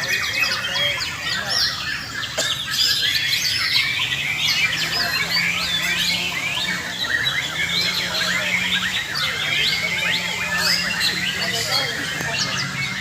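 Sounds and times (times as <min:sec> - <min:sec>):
chorus of songbirds: 0:00.0 - 0:13.0.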